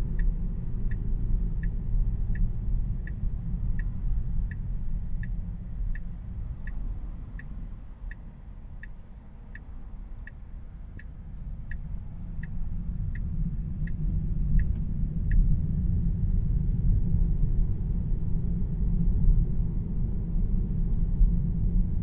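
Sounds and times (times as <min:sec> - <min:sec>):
turn signal ticking: 0:00.0 - 0:17.7
road and tyre rumble: 0:00.0 - 0:22.0.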